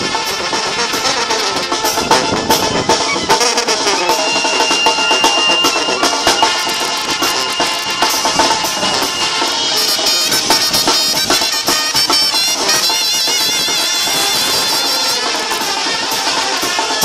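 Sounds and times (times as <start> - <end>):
brass band playing: 0.0 - 17.0
percussion hits: 0.0 - 17.0.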